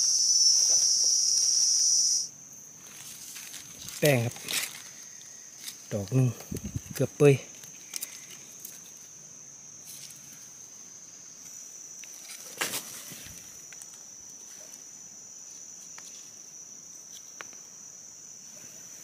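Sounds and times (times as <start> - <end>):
insect high-pitched drone: 0.0 - 19.0.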